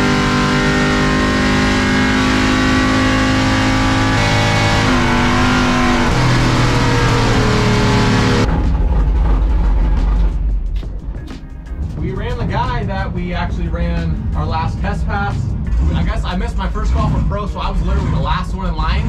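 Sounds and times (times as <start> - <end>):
truck engine running hard: 0.0 - 10.5, 12.2 - 19.0.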